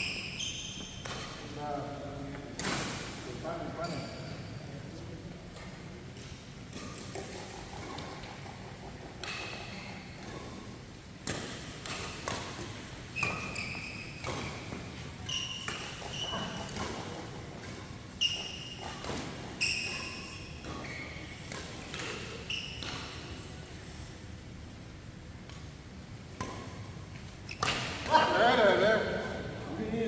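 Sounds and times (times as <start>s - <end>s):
shoes squeaking on court floor: 0.0s - 23.5s, 25.4s - 30.0s.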